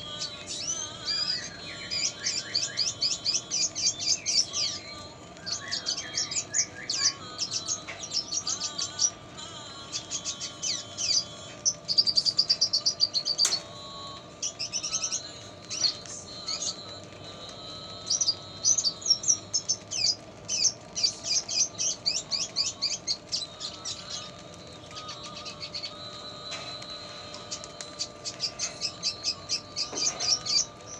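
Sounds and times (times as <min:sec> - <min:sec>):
bird singing: 0:00.0 - 0:30.9.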